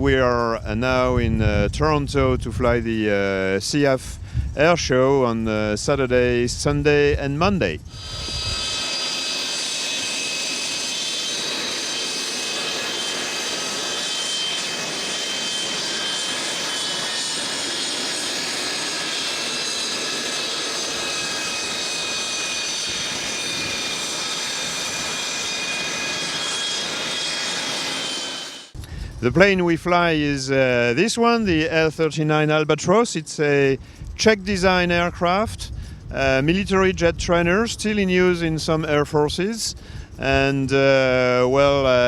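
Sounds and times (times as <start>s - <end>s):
high jet engine whines: 0.0s - 42.0s
jet engines rushing: 1.2s - 35.0s.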